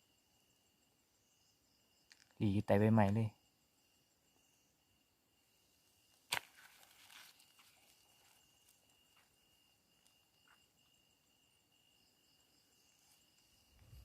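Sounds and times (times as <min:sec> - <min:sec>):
insect trill: 0:00.0 - 0:14.0.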